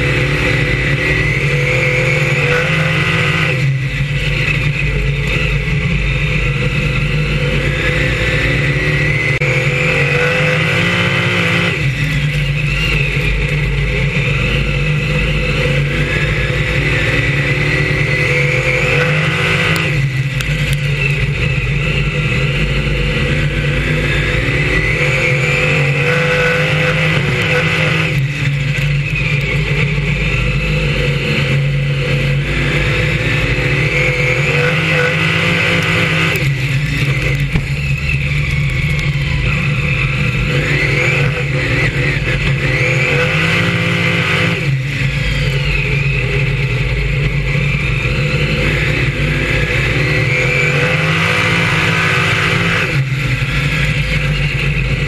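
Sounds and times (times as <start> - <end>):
stock car engine revving: 0.0 - 55.0.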